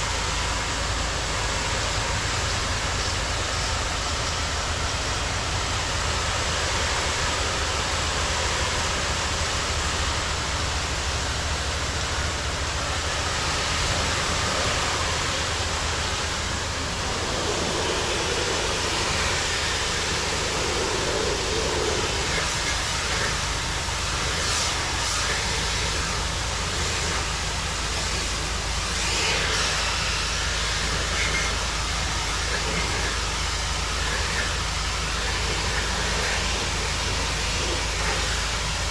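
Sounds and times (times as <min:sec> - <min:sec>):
engine running: 0:00.0 - 0:38.9
pressure washer spraying hiss: 0:00.0 - 0:38.9.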